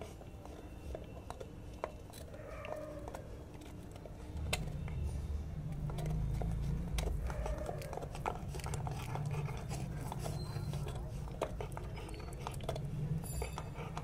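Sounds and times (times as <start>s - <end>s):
dog gnawing on a bone: 0.0s - 14.0s.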